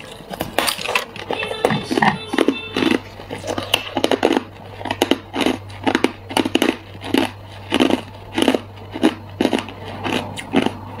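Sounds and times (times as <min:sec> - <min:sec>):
ice being chewed: 0:00.0 - 0:11.0.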